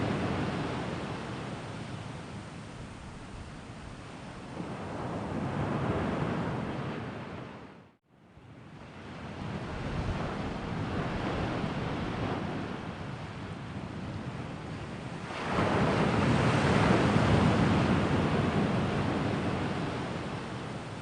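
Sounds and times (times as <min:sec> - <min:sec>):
sea waves washing in: 0:00.0 - 0:07.8, 0:08.7 - 0:21.0.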